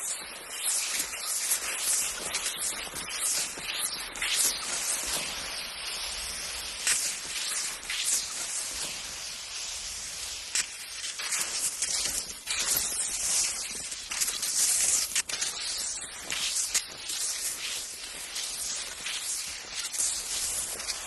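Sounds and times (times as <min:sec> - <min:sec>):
skis scraping over snow: 0:00.0 - 0:21.0.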